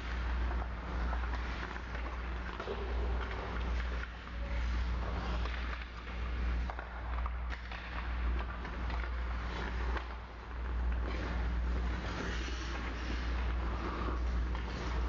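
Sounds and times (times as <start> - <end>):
skates and sticks scraping ice: 0.0 - 15.0
steady low hum: 0.0 - 15.0.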